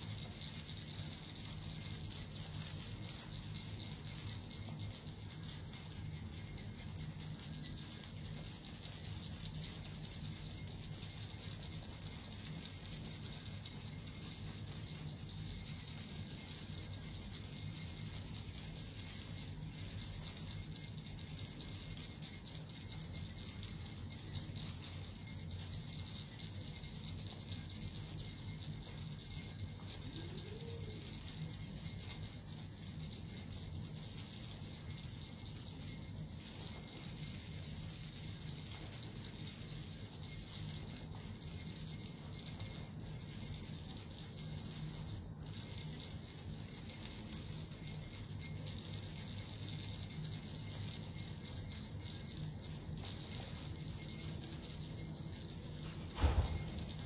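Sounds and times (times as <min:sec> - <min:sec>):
small jingle bells shaken: 0:00.0 - 0:57.0.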